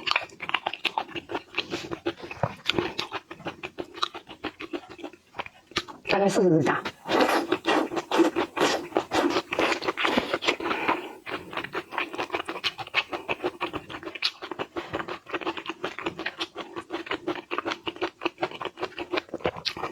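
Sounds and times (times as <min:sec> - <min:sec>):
food being chewed and crunched: 0:00.0 - 0:19.9.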